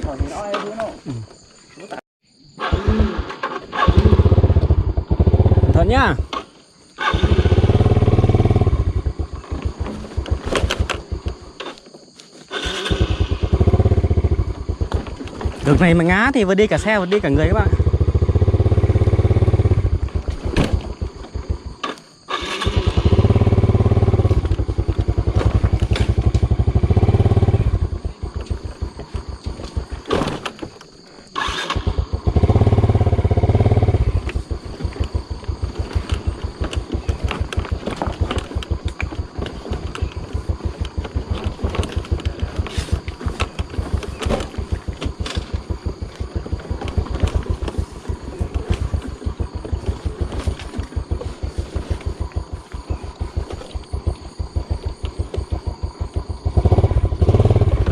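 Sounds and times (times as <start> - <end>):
motorbike engine revving: 2.6 - 11.8, 12.5 - 30.6, 31.3 - 57.9.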